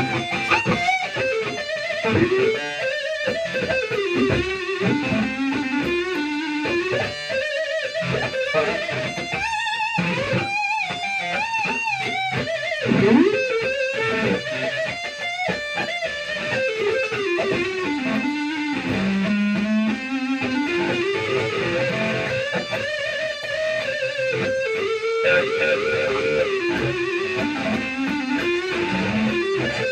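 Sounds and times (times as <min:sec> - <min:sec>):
electric guitar lead melody: 0:00.0 - 0:29.9.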